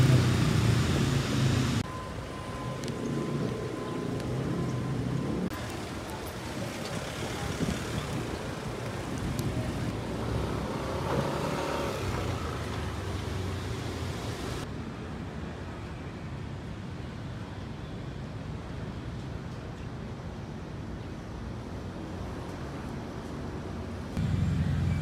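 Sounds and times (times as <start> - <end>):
street traffic hum: 0.0 - 25.0.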